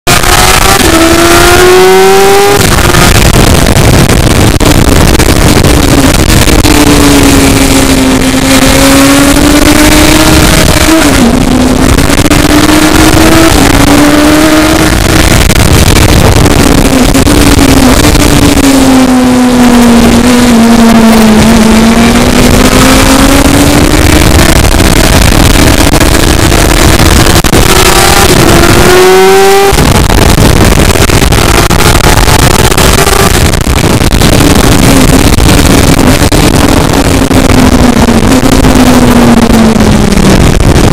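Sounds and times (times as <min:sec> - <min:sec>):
car engine running hard: 0:00.0 - 0:40.9
loud steady rush of noise: 0:00.0 - 0:40.9.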